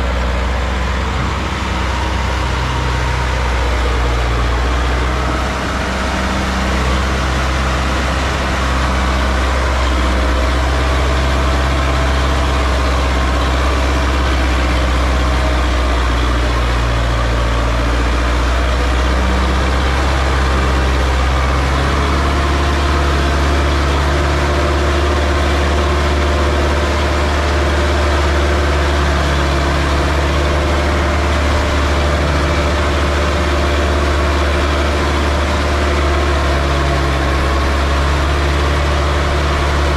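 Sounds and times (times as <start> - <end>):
tractor diesel engine humming: 0.0 - 39.9.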